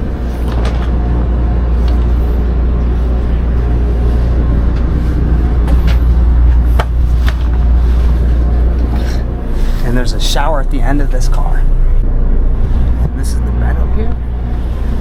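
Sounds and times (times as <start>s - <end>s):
train car low hum: 0.0s - 15.0s.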